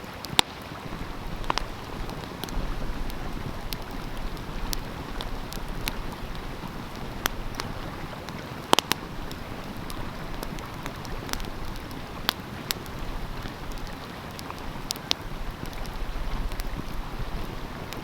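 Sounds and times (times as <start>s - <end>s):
stream flowing: 0.0s - 18.0s
wood fire crackling and popping: 0.0s - 18.0s.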